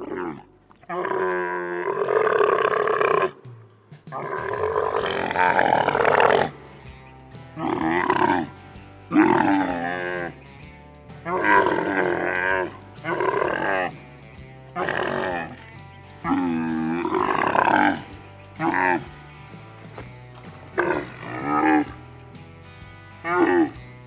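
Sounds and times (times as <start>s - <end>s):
camel calling: 0.0s - 24.0s
background music: 2.3s - 24.0s.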